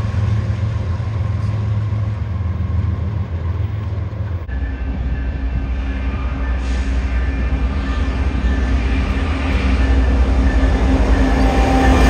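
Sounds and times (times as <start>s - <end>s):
diesel locomotive engine drone: 0.0s - 12.0s
low rumble of diesel train: 0.0s - 12.0s
train track noise: 0.0s - 12.0s.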